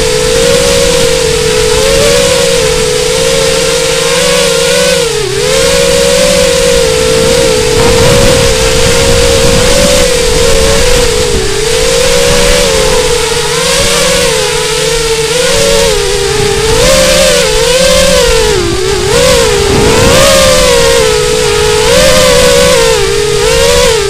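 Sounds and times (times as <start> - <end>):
drone motors whining: 0.0 - 24.0
rushing air noise: 0.0 - 24.0.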